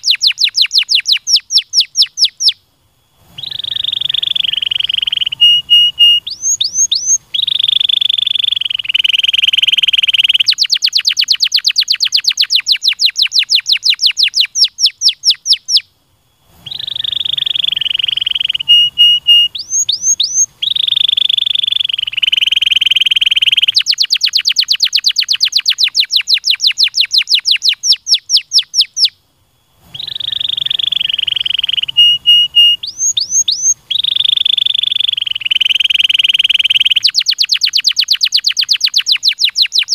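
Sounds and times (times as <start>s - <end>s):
canary singing: 0.0s - 2.6s, 3.2s - 15.9s, 16.5s - 29.2s, 29.8s - 39.9s.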